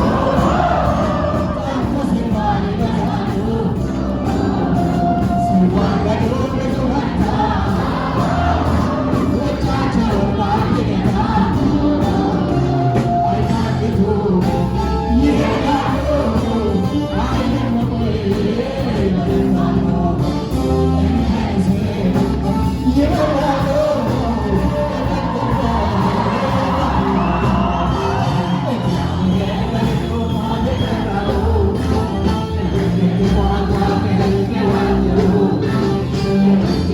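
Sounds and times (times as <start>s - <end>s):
band accompaniment: 0.0s - 36.9s
person singing gospel song: 0.0s - 36.9s.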